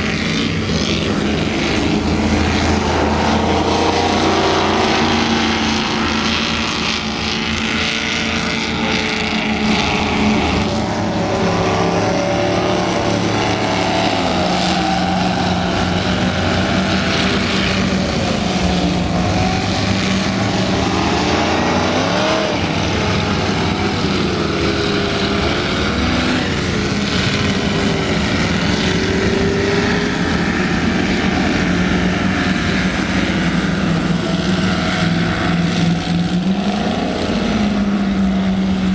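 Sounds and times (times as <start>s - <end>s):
powerboat engines accelerating past: 0.0s - 38.9s.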